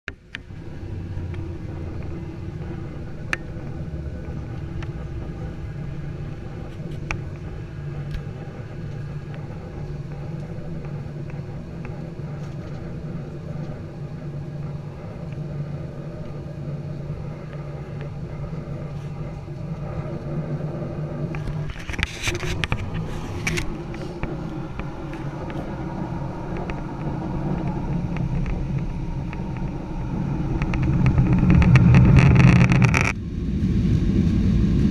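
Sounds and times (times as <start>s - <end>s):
jet engines humming in cabin: 0.1s - 34.9s.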